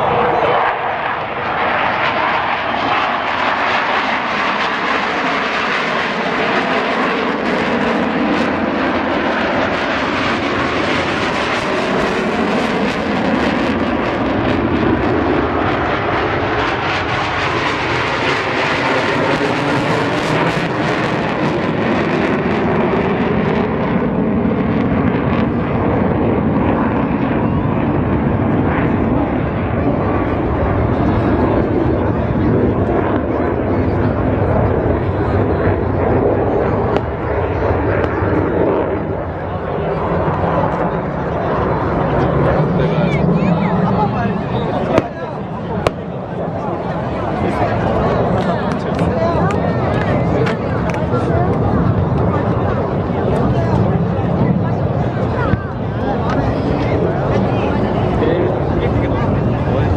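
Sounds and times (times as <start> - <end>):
jet aircraft flying past: 0.0 - 59.9.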